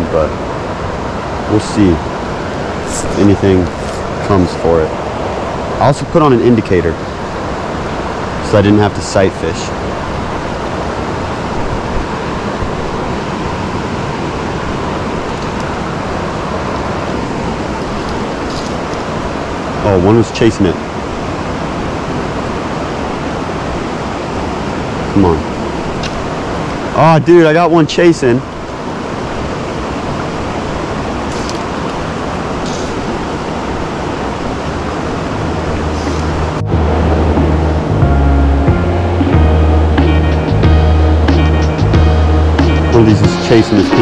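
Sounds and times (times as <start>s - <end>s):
creek water flowing: 0.0s - 44.0s.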